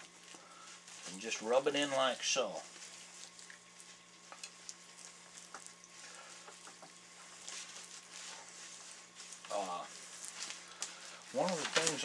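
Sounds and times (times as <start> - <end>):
faint hum: 0.0 - 12.0
small clicks and crackles: 0.0 - 12.0
soft wet rubbing: 0.0 - 12.0.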